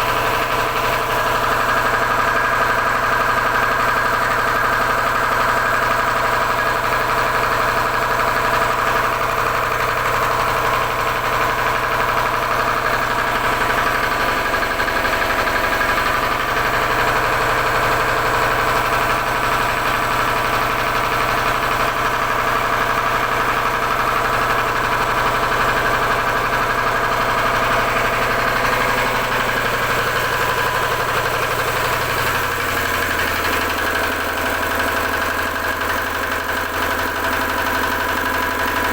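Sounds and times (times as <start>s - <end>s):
generator engine running: 0.0s - 38.9s.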